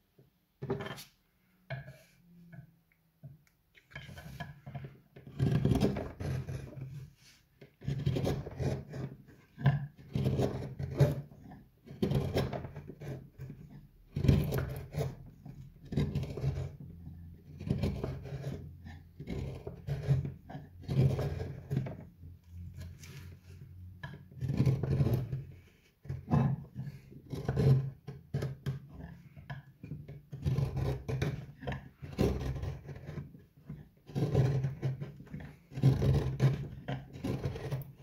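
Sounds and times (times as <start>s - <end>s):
gouge scraping wood: 0.6s - 2.2s, 3.9s - 38.0s.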